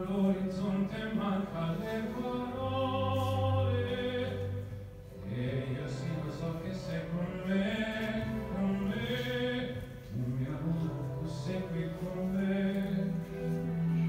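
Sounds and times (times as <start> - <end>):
person singing long held notes: 0.0 - 14.0.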